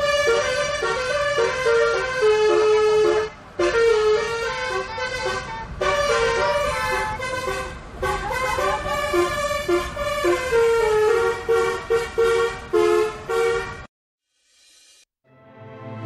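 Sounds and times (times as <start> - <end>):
multi-tone air horn melody: 0.0 - 13.9.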